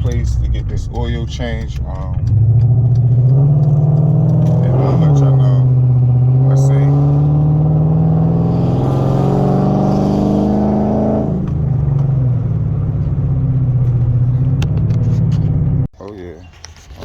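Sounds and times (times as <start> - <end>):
car engine accelerating: 0.0 - 15.9.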